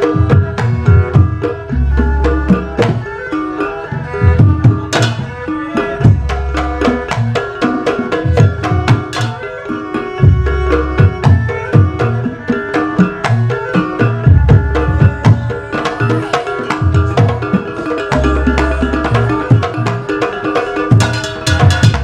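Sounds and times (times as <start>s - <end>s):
deep low drum beats: 0.0s - 22.0s
drum ensemble music: 0.0s - 22.0s
violin: 0.0s - 22.0s.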